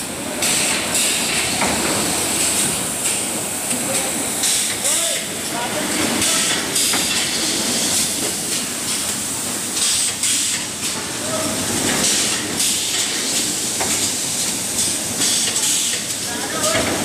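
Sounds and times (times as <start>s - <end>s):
machinery and fans hissing: 0.0s - 17.0s.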